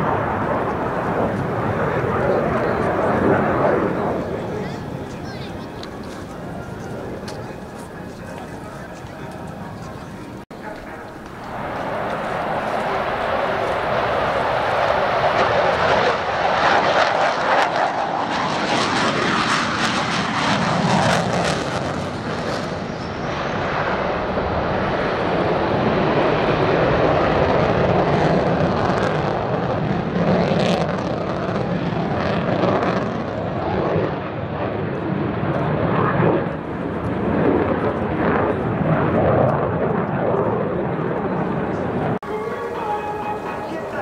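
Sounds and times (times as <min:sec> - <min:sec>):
fighter jet flying past: 0:00.0 - 0:44.0.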